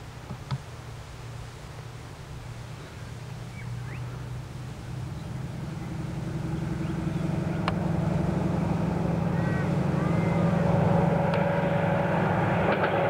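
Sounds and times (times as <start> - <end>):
diesel locomotive engine running: 1.9 - 13.0.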